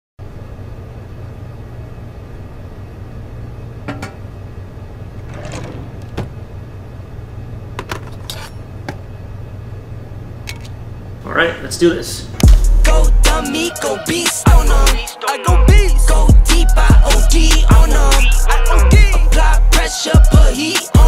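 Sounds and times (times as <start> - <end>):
steady low hum: 0.2 - 19.9.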